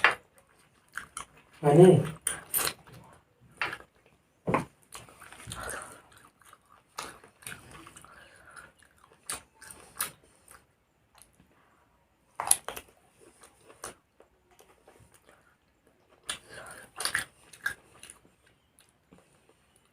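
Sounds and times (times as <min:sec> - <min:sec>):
person chewing: 0:00.0 - 0:11.4, 0:12.4 - 0:19.9.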